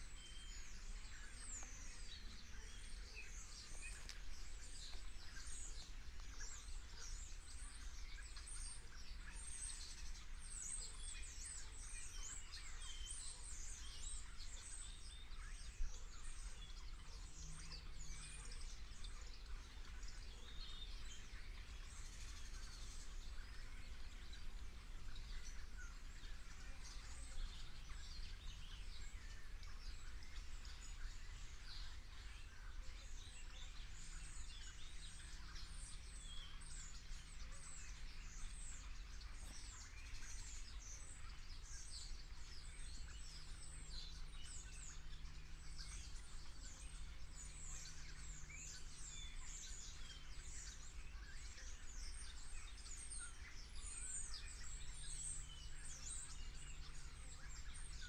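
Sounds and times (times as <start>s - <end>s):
flock of small birds chirping: 0.0s - 58.0s
low steady rumble: 0.0s - 58.0s.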